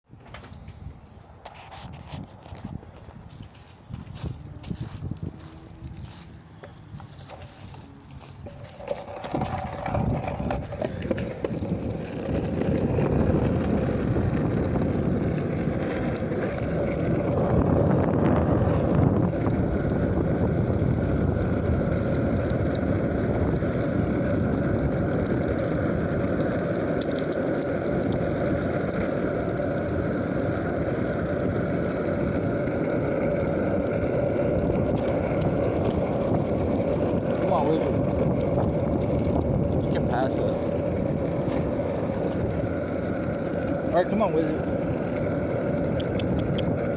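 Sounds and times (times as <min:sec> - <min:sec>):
skateboard wheels rolling on pavement: 0:00.0 - 0:46.9.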